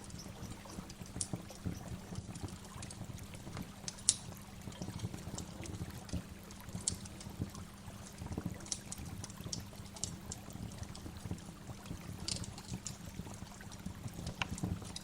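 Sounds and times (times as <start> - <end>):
water dripping: 0.0 - 15.0.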